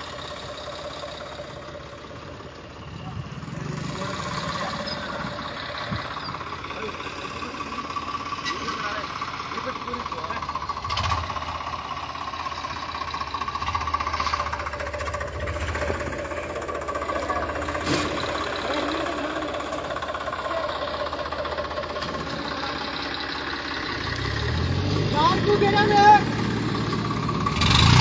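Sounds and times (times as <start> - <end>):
tractor diesel engines under load: 0.0 - 28.0.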